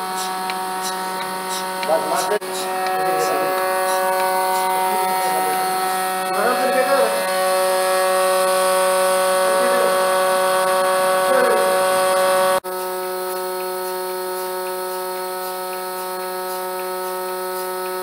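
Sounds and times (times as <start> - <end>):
vacuum pump whining hum: 0.0 - 18.0.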